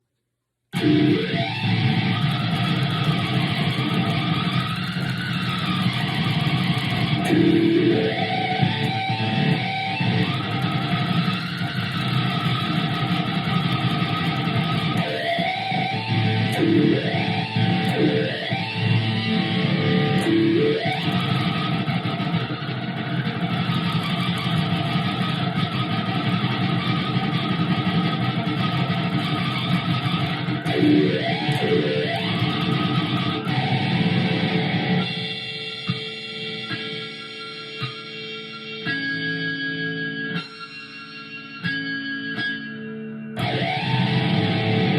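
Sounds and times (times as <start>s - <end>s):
electric guitar with wah pedal: 0.8s - 44.9s.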